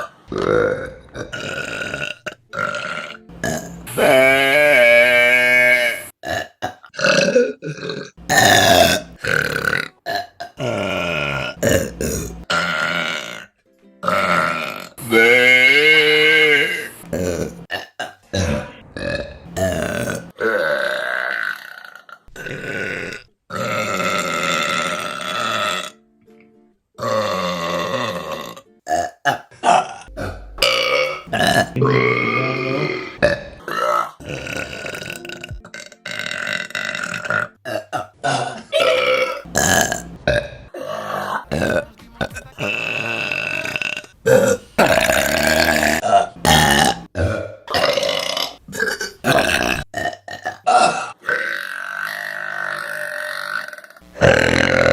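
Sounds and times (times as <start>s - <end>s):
women burping: 0.0s - 26.0s, 27.0s - 54.9s.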